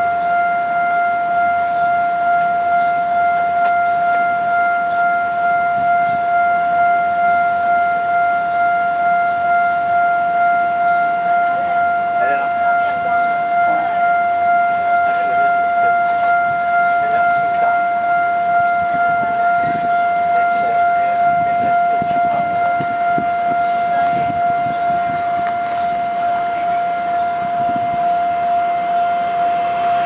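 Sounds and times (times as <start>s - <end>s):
level crossing alarm tone: 0.0s - 30.0s.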